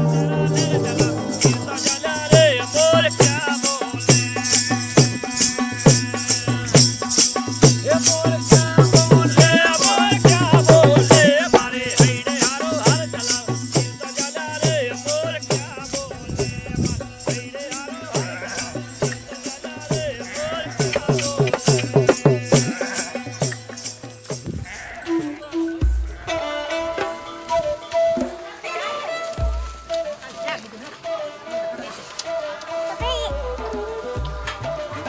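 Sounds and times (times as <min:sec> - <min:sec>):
shaker rhythm music: 0:00.0 - 0:35.0.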